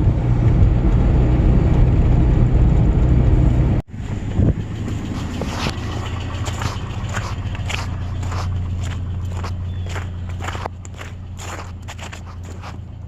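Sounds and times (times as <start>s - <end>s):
vehicle low rumble: 0.0s - 13.0s.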